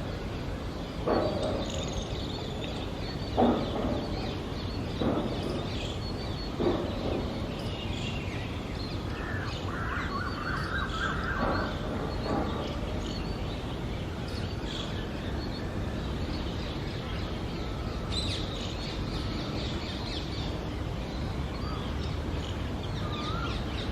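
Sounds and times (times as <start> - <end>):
birds chirping: 0.0 - 23.9
outdoor background noise: 0.0 - 23.9.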